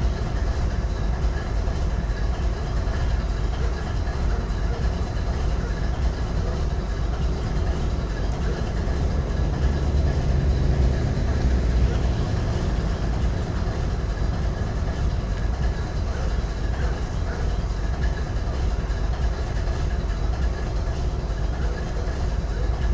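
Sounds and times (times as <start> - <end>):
locomotive diesel engine idling: 0.0 - 22.9.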